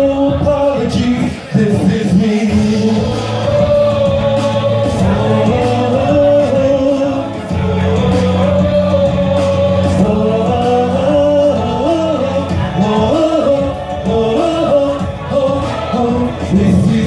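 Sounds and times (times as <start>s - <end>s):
choir-style backing vocals: 0.0s - 17.0s
man singing into a microphone: 0.0s - 17.0s
pop ballad backing track: 0.0s - 17.0s.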